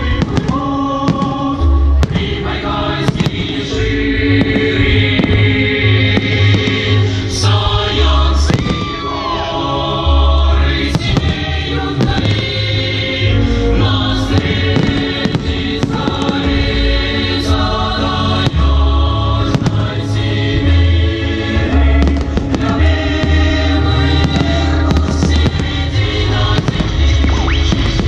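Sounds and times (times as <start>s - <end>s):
fireworks bangs and crackles: 0.0s - 9.4s, 10.6s - 13.1s, 13.9s - 17.6s, 18.2s - 20.9s, 21.5s - 28.0s
loud music with choir voices: 0.0s - 28.0s.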